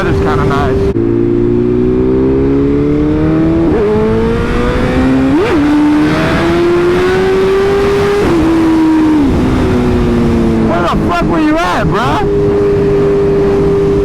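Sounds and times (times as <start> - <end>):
sport bike engine revving: 0.0 - 14.0
wind noise: 0.0 - 14.0.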